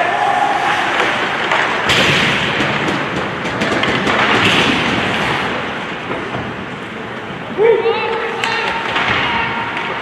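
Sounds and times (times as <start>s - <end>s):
crowd noise: 0.0s - 10.0s
skates scraping ice: 0.2s - 10.0s
hockey sticks clacking: 0.6s - 10.0s.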